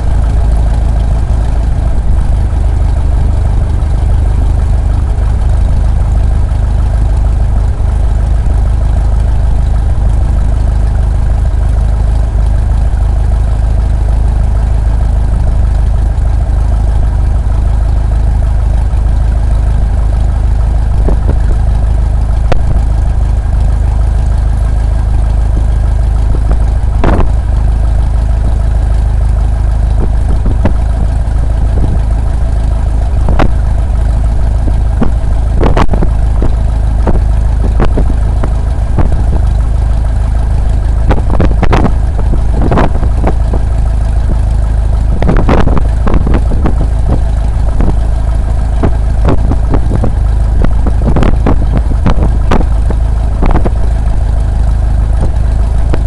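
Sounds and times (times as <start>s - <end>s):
heavy low rumble: 0.0s - 56.0s
light aircraft engine and propeller: 0.0s - 56.0s.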